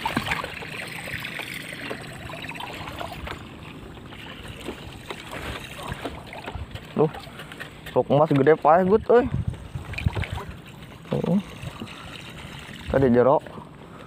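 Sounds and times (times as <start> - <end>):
water lapping against boat hull: 0.0 - 8.6, 9.4 - 13.6.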